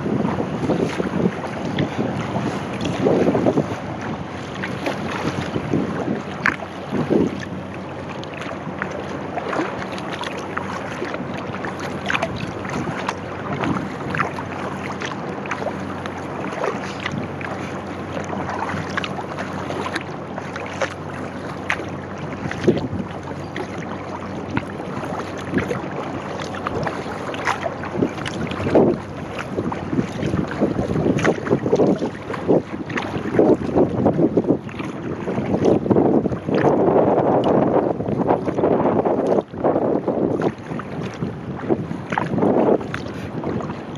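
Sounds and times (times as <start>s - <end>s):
paddle splashing in water: 0.0s - 43.9s
water washing along hull: 0.0s - 43.9s
wind buffeting microphone: 0.0s - 43.9s.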